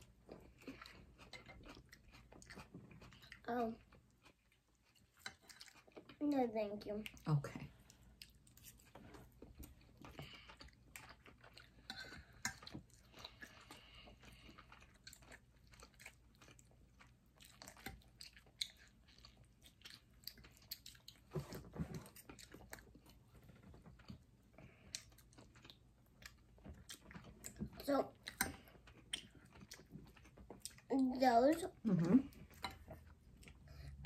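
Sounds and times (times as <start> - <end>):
chewing and biting food: 0.0 - 6.3, 7.0 - 30.9.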